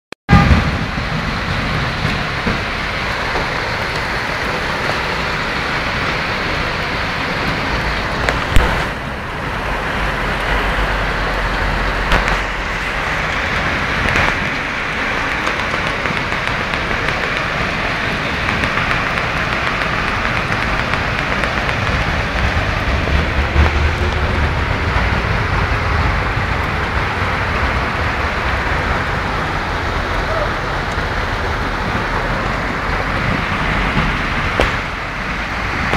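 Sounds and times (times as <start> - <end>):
hail and rain falling: 0.3 - 35.9
low rumble: 0.3 - 35.9.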